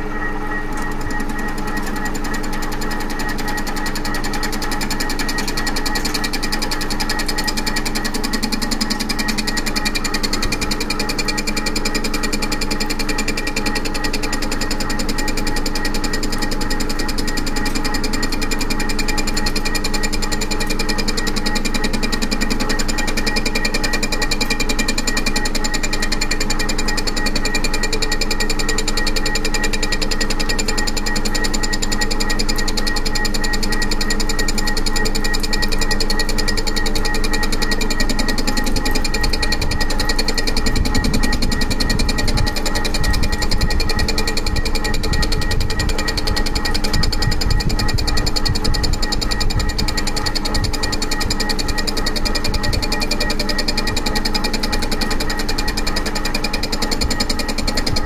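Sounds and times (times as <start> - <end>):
machine running whine: 0.0 - 58.0.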